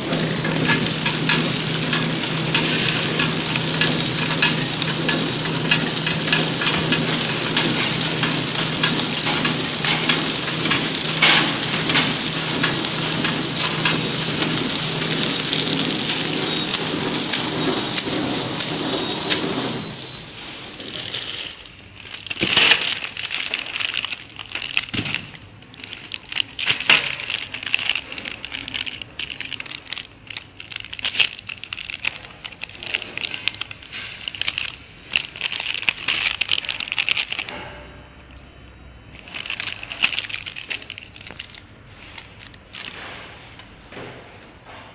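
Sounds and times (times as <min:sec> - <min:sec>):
plastic bags crinkling: 0:00.0 - 0:19.8, 0:20.9 - 0:37.6, 0:39.1 - 0:43.4.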